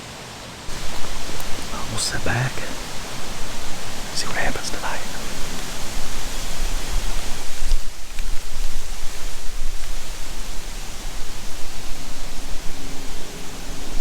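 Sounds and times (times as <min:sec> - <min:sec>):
wind buffeting microphone: 0:00.7 - 0:14.0.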